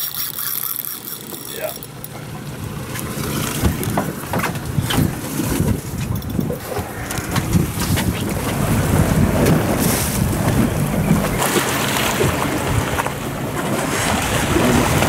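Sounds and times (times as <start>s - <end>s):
sea water washing around boat: 1.2s - 15.0s
wind buffeting microphone: 1.9s - 15.0s.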